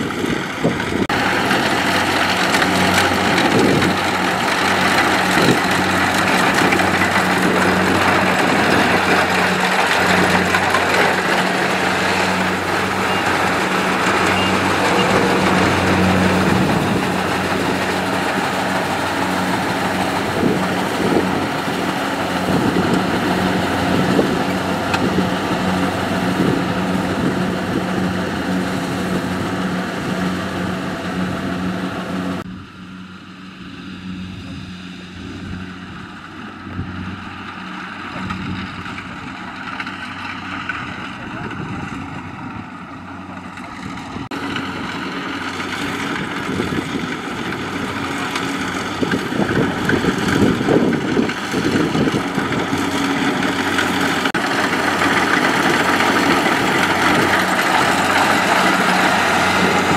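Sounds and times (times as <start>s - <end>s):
combine harvester diesel engine drone: 0.0s - 59.9s
harvesting machinery working: 0.0s - 59.9s.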